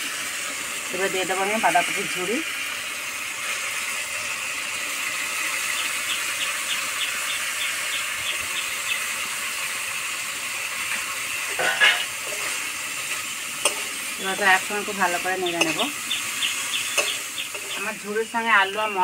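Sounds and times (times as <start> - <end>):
potatoes sizzling in a wok: 0.0 - 19.0.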